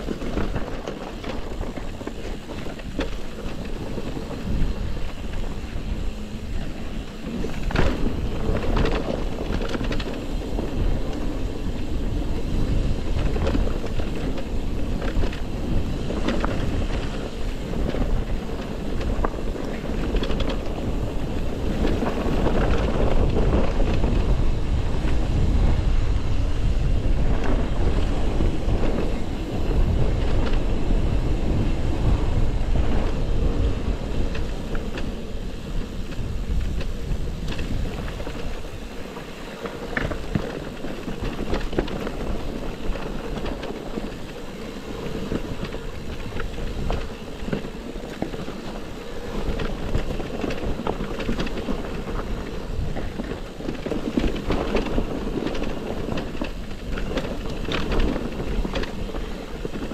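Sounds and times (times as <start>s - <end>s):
bike rattling: 0.0s - 59.9s
wind rumbling on microphone: 0.0s - 59.9s.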